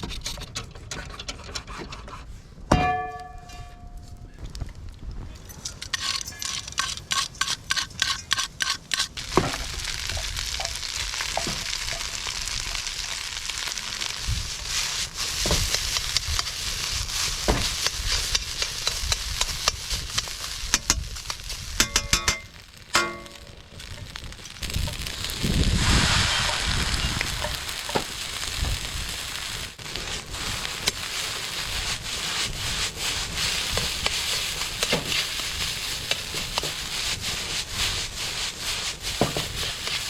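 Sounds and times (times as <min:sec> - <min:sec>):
steak sizzling and crackling: 0:05.6 - 0:40.0.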